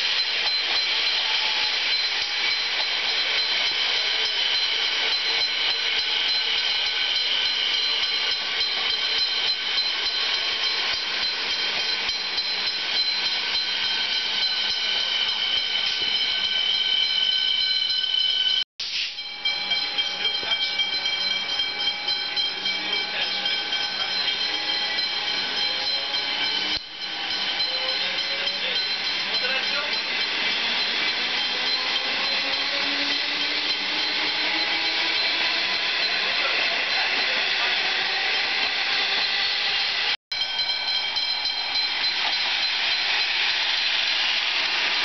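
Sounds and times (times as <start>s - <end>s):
high-pitched traction whine: 0.0s - 45.0s
train motor tones rising: 0.0s - 45.0s
wheel and rail noise: 0.0s - 45.0s.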